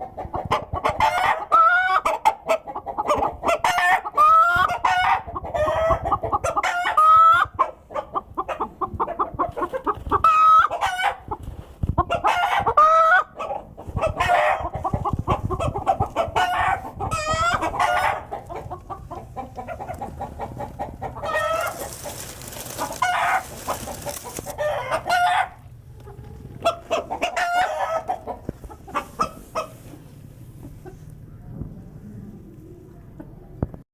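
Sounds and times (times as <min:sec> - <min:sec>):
hens cackling and clucking: 0:00.0 - 0:31.3.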